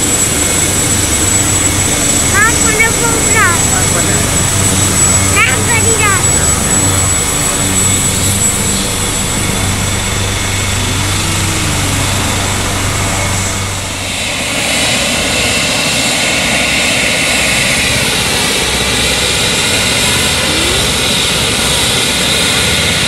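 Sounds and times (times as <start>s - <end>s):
helicopter turbine and rotor: 0.0s - 23.0s
high turbine whine: 0.0s - 23.0s.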